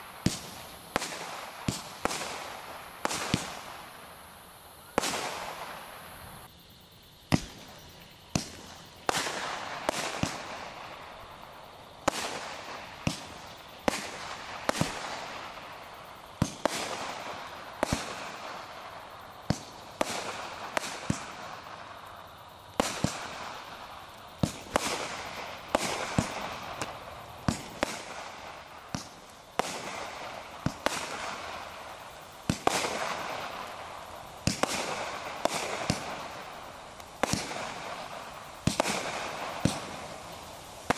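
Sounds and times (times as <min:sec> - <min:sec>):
fireworks popping and hissing: 0:00.0 - 0:40.9.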